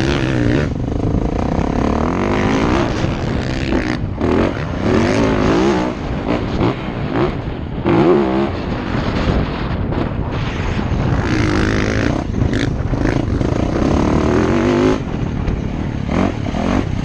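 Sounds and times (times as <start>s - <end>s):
dirt bike engine revving: 0.0s - 9.0s, 11.0s - 17.0s.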